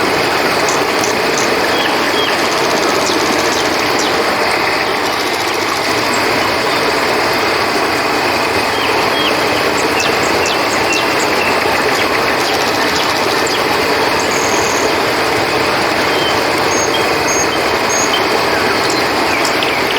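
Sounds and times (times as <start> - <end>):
crickets chirping: 0.0 - 19.9
river water rushing: 0.0 - 19.9.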